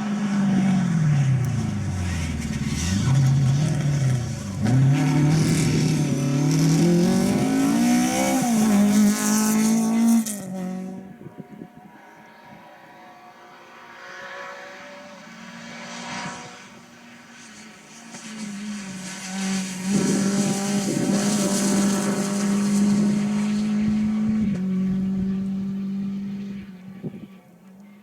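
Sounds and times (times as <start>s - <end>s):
rally car engine: 0.0s - 28.0s.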